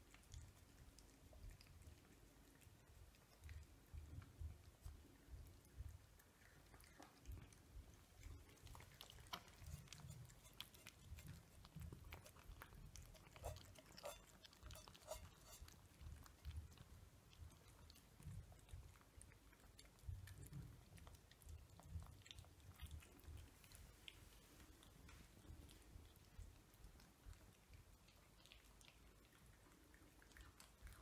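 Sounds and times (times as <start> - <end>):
cats chewing and crunching: 0.0 - 31.0.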